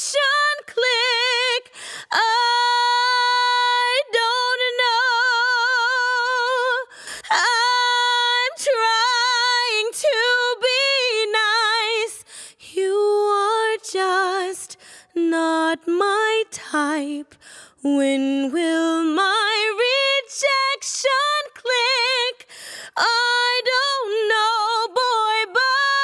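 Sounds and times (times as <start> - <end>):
woman singing with vibrato: 0.0 - 26.0.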